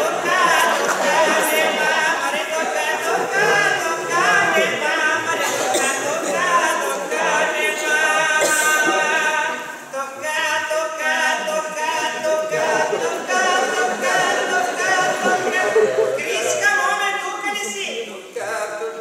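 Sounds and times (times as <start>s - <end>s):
unaccompanied group singing: 0.0s - 16.9s.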